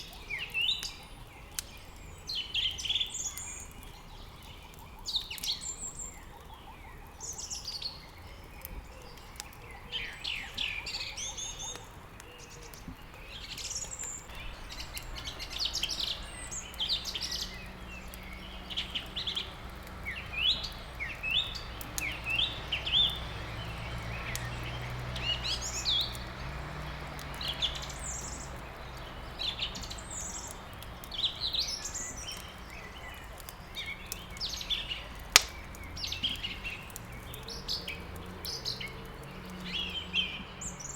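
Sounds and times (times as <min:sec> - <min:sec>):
small birds chirping: 0:00.0 - 0:40.9
wood crackling in fireplace: 0:00.0 - 0:40.9.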